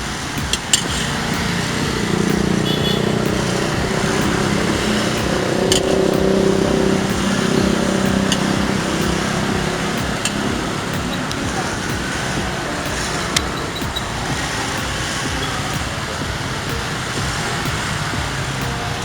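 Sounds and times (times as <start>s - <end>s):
road traffic: 0.0s - 19.0s
vehicle engine running nearby: 0.0s - 19.0s
sharp clicks: 0.2s - 19.0s.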